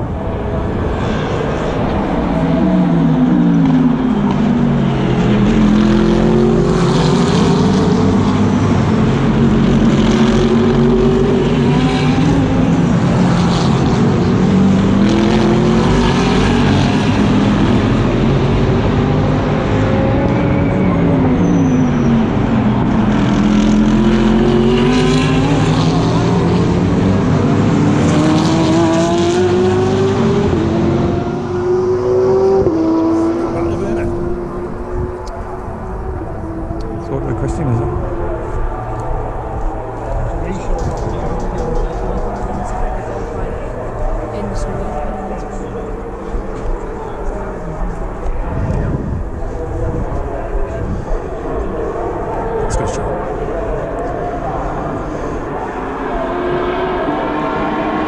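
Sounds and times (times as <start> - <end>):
racing car engine accelerating: 0.0 - 58.0.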